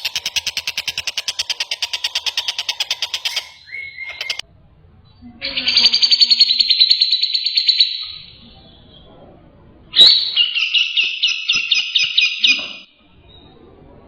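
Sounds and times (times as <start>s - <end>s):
bird singing trilled phrases: 0.0s - 4.4s, 5.4s - 9.1s, 9.9s - 13.5s.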